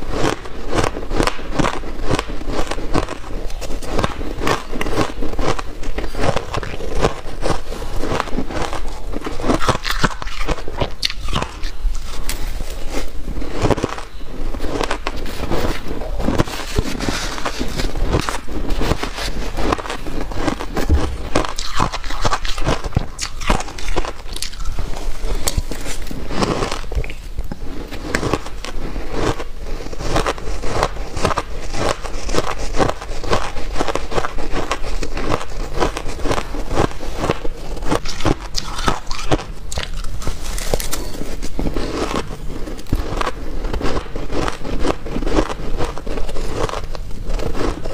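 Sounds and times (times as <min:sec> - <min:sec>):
ice being chewed: 0:00.1 - 0:47.9.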